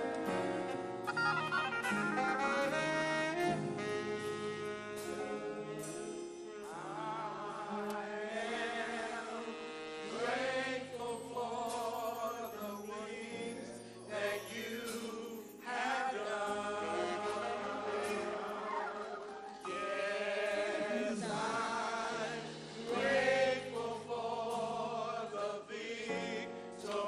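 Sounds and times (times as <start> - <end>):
band accompaniment: 0.0 - 7.0, 7.6 - 12.0, 14.9 - 25.5
choir singing gospel: 0.0 - 27.0.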